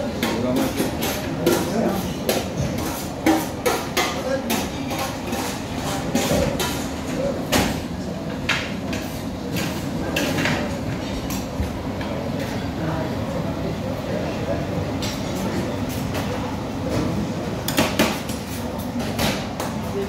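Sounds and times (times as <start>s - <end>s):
people talking: 0.0s - 20.0s.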